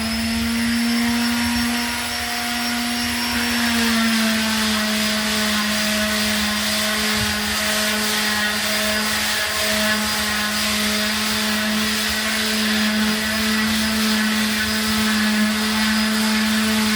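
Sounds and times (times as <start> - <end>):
wall sander running: 0.0 - 16.9.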